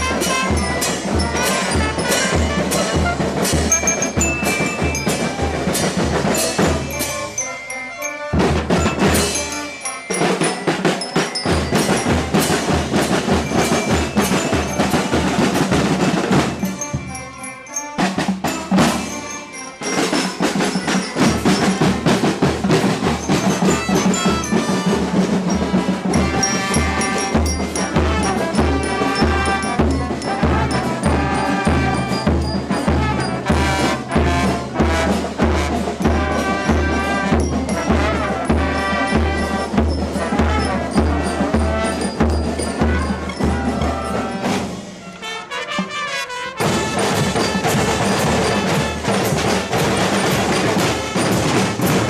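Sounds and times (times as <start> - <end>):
steady drum beat: 0.0 - 7.4, 8.3 - 52.0
bell-like mallet tones: 0.0 - 44.8.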